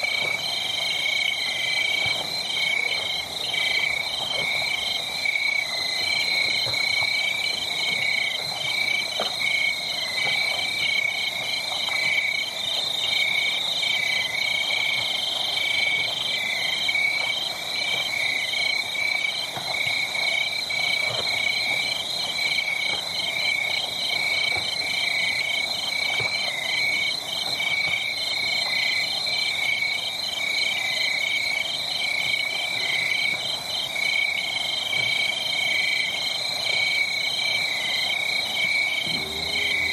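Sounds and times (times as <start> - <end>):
frogs and insects calling: 0.0 - 39.9.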